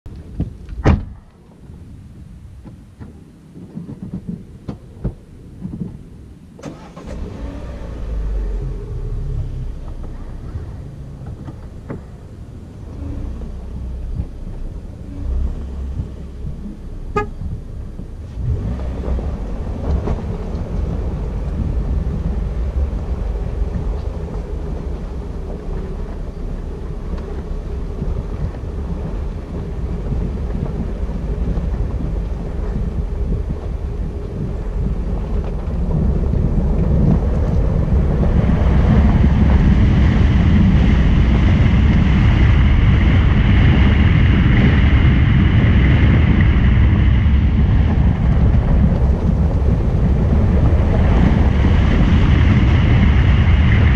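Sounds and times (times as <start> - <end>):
vehicle engine and road rumble: 0.0 - 53.9.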